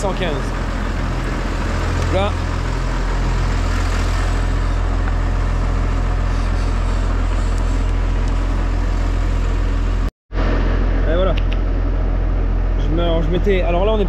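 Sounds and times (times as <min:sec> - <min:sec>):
tractor diesel engine idling: 0:00.0 - 0:14.0.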